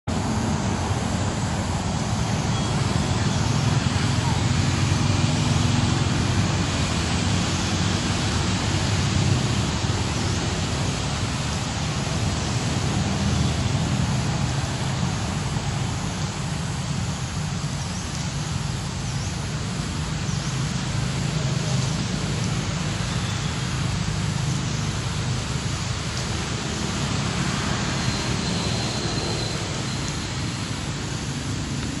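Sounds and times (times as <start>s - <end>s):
low rumble with hiss: 0.1s - 32.0s.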